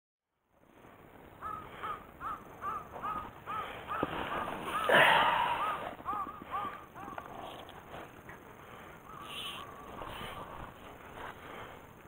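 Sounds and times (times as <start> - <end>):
bird calling: 1.3 - 11.8.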